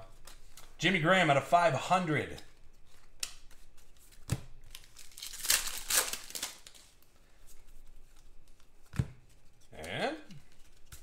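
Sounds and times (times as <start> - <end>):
cards rustling: 0.1 - 1.0, 2.0 - 11.0.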